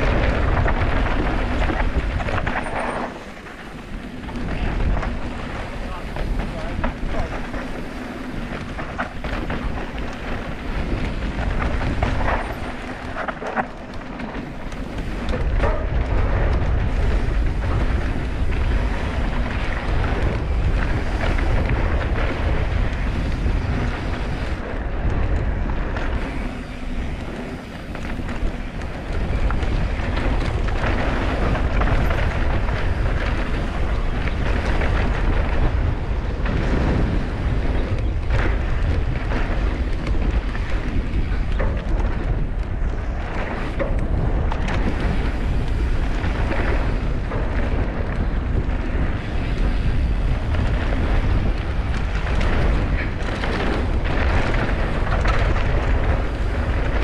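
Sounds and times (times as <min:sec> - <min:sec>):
bike clicks and rattles: 0:00.0 - 0:57.0
tyres crunching on dirt trail: 0:00.0 - 0:57.0
wind buffeting microphone: 0:00.0 - 0:57.0.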